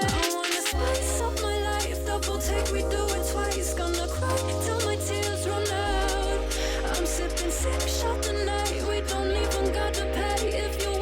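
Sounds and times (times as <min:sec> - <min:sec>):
hip hop backing music: 0:00.0 - 0:11.0
steady beat: 0:00.0 - 0:11.0
deep sustained bassline: 0:00.8 - 0:11.0.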